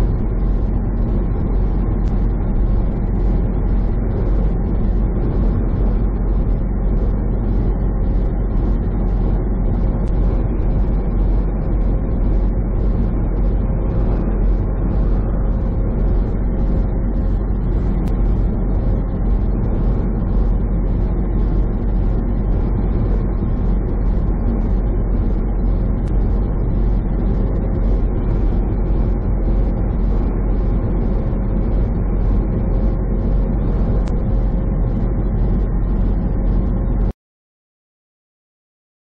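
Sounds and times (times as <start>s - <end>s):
truck engine and road rumble: 0.0s - 37.1s
faint steady hum: 0.0s - 37.2s.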